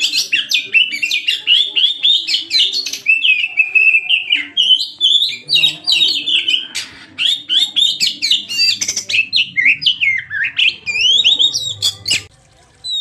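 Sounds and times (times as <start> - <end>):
songbird whistling and chattering: 0.0 - 12.3.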